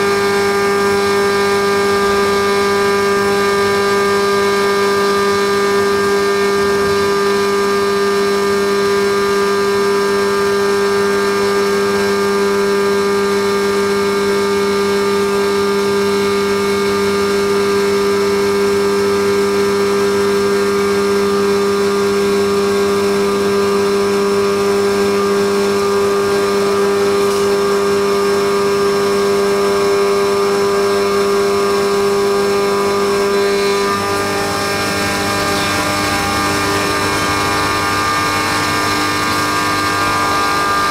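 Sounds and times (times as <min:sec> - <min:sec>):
milling machine hum and whine: 0:00.0 - 0:40.9.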